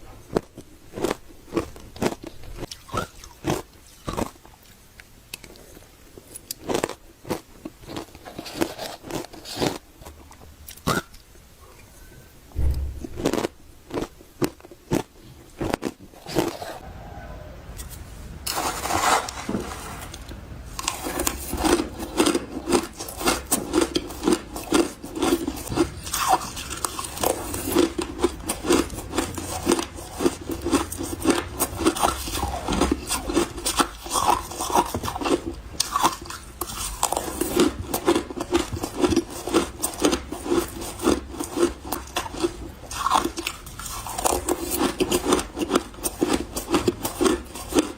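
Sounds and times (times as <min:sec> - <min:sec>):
chewing crunchy ice: 0:00.3 - 0:04.8, 0:05.4 - 0:11.2, 0:13.2 - 0:16.8, 0:20.8 - 0:47.9.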